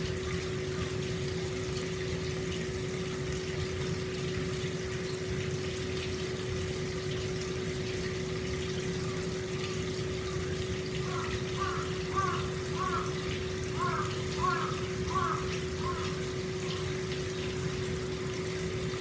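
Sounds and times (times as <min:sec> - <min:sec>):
water pouring into a bath: 0:00.0 - 0:19.0.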